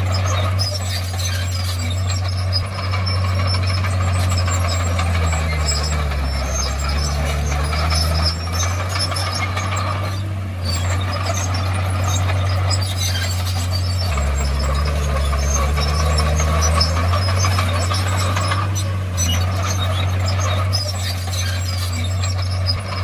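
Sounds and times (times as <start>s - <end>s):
bulldozer diesel engine running: 0.0s - 23.0s
high metallic squeaks: 0.0s - 23.0s.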